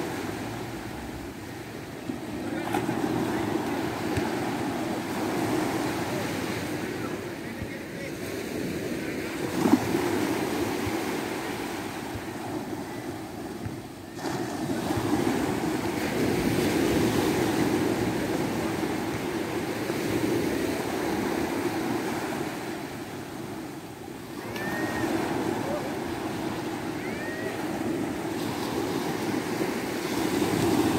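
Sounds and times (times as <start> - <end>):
small waves washing up a beach: 0.0 - 30.9.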